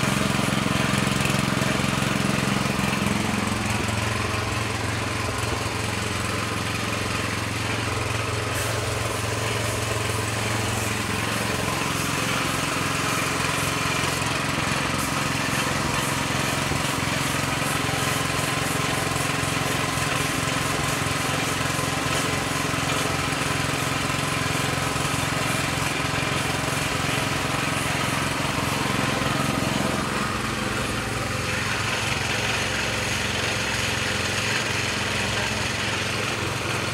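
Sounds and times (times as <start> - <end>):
air compressor humming: 0.0 - 36.9
spray gun hissing: 0.0 - 36.9.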